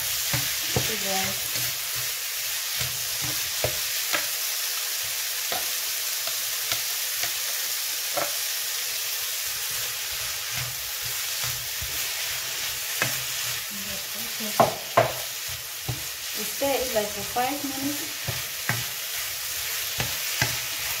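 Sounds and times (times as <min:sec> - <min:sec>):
spoon stirring and knocking pan: 0:00.0 - 0:08.5, 0:09.6 - 0:21.0
food sizzling in a frying pan: 0:00.0 - 0:21.0.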